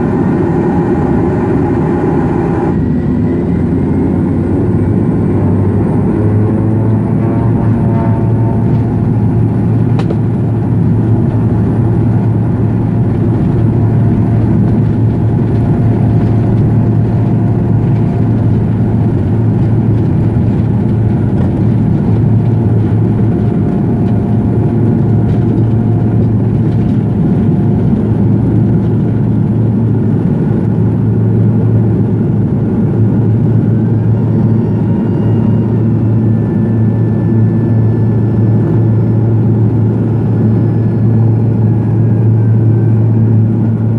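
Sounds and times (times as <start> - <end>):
turboprop propeller drone: 0.0 - 43.9.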